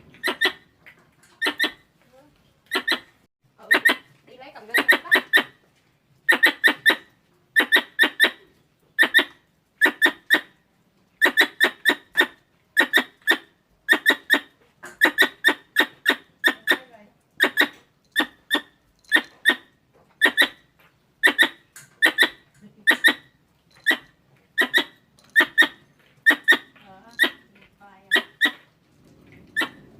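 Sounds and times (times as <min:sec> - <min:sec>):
squirrel chirping: 0:00.1 - 0:00.7, 0:01.4 - 0:01.8, 0:02.7 - 0:05.6, 0:06.2 - 0:10.5, 0:11.2 - 0:28.7, 0:29.5 - 0:29.9.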